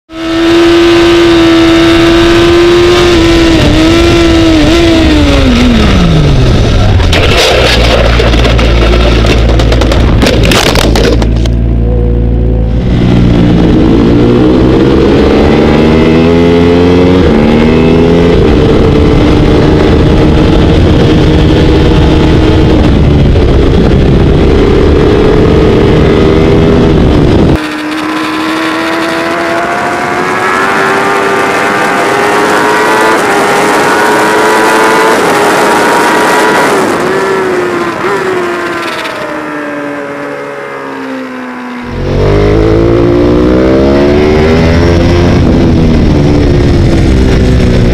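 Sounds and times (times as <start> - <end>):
racing motorcycle engine revving: 0.1 - 47.9.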